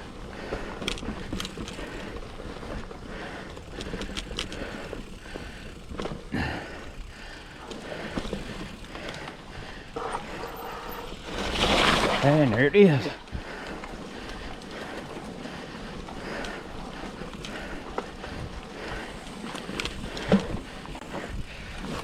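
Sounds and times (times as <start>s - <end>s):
bike clicks and rattles: 0.0s - 22.0s
bike tyres rolling on dirt: 0.0s - 22.0s.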